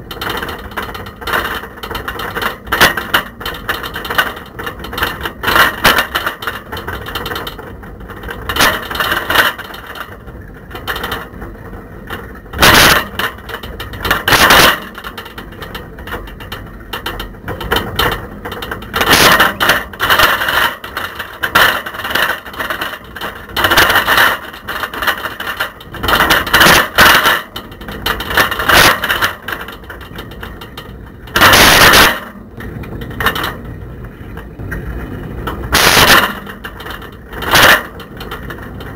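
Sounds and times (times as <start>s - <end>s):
bicycle riding noise: 0.0s - 38.9s
camera rattling in bicycle basket: 0.0s - 38.9s.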